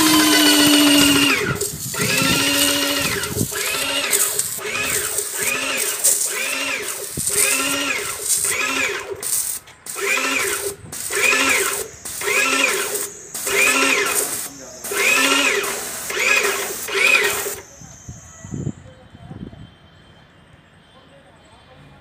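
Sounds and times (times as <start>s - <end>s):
paint sprayer pump pulsing: 0.0s - 18.2s
spray hiss: 0.0s - 18.2s.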